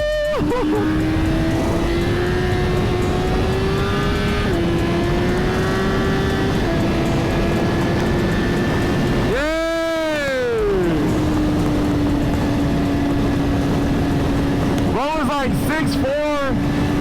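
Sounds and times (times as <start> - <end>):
motorcycle engine cruising: 0.0 - 17.0
wind rushing: 0.8 - 17.0.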